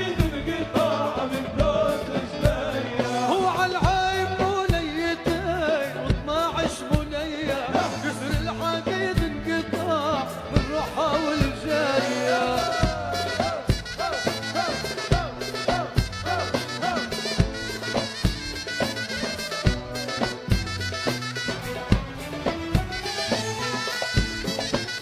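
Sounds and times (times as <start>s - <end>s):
song with singing voice: 0.0s - 20.6s
steady drum beat: 0.0s - 25.0s.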